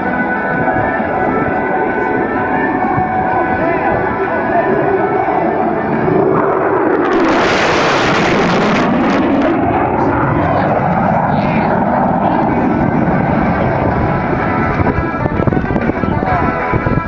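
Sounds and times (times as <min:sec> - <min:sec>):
jet engines in low pass: 0:00.0 - 0:17.0.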